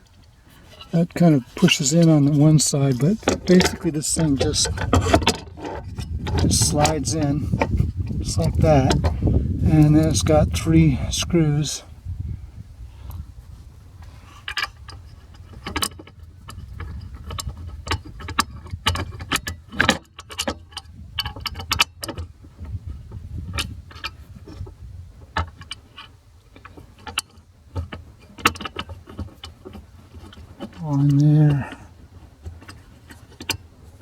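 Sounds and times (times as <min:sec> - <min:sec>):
hand tools clicking and knocking: 0:00.0 - 0:11.6, 0:14.4 - 0:22.8, 0:23.5 - 0:34.0
low steady hum: 0:00.0 - 0:34.0.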